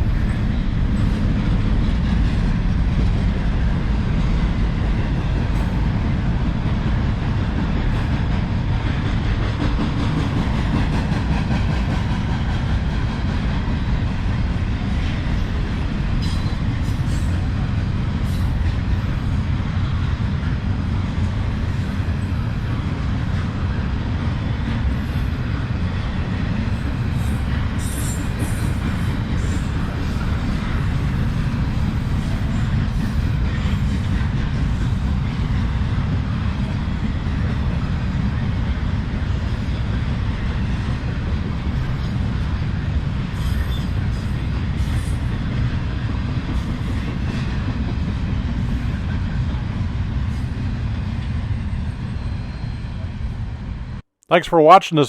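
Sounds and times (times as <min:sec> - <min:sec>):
freight train cars rumbling: 0:00.0 - 0:55.0.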